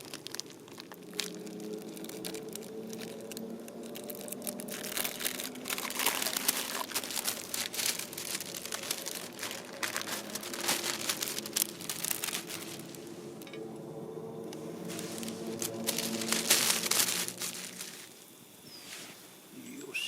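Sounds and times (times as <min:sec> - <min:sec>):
crinkling and crunching: 0:00.0 - 0:13.7, 0:14.4 - 0:19.8.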